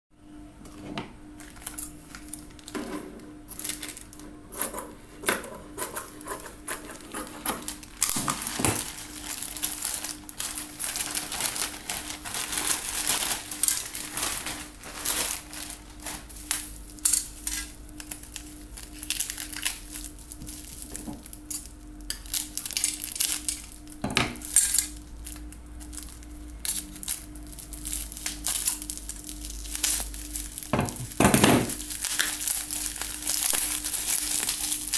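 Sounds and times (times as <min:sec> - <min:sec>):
faint steady hum: 0:00.2 - 0:34.9
plastic bag crinkling: 0:01.4 - 0:02.8, 0:03.5 - 0:04.2, 0:06.9 - 0:34.9.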